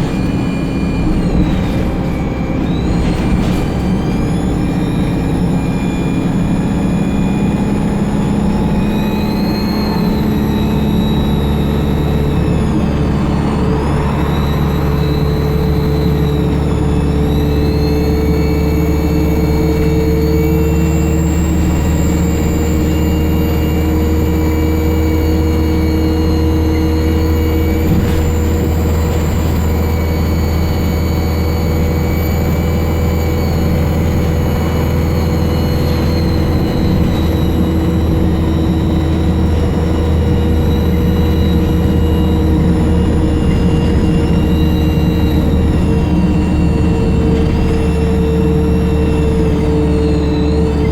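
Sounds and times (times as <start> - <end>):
bus diesel engine drone: 0.0 - 50.9
turbocharger whistle: 0.0 - 50.9.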